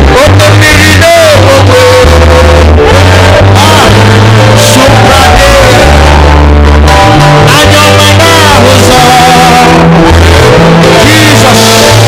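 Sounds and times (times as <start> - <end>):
person singing praise song: 0.0 - 6.4, 7.3 - 10.1, 10.8 - 12.0
live worship band: 0.0 - 12.0.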